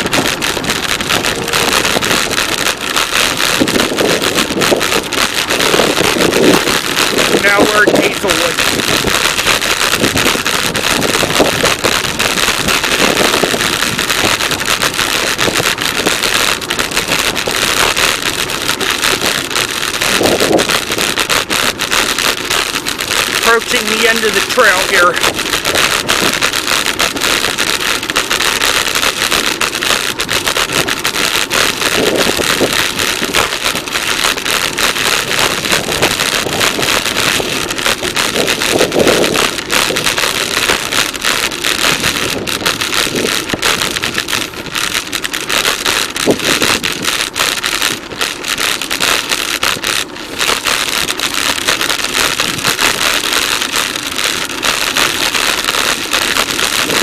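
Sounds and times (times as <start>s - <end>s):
bicycle rolling road noise: 0.0s - 23.6s, 24.8s - 57.0s
wind blowing over microphone: 0.0s - 53.7s, 56.5s - 57.0s.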